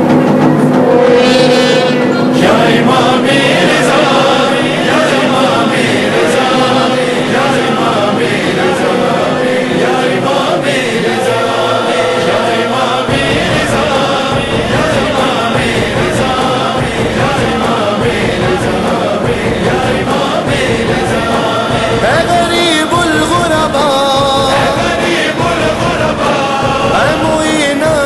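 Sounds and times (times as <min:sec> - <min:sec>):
long-held horn notes: 0:00.0 - 0:27.2
voices chanting: 0:00.0 - 0:28.0.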